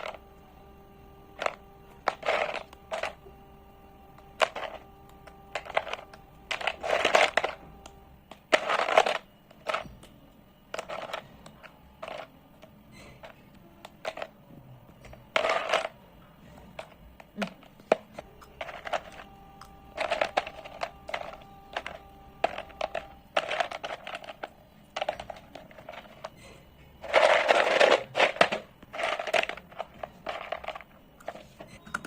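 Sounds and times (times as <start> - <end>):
faint steady hum: 0.0 - 32.0
slate pencils crunching: 1.3 - 3.3, 4.2 - 10.0, 10.7 - 14.3, 15.3 - 31.7.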